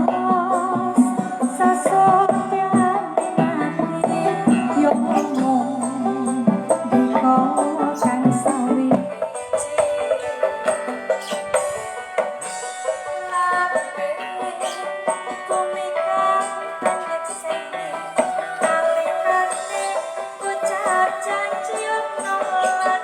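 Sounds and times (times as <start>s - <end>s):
music through small speaker: 0.0s - 23.0s.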